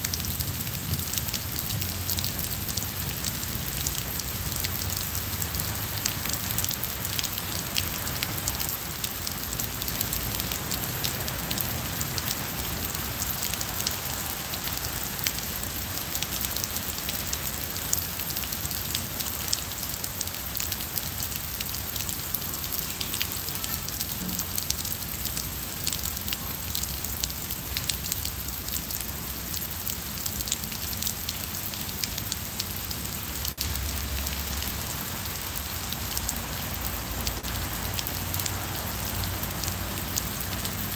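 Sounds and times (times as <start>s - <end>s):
rain on stone paving: 0.0s - 40.9s.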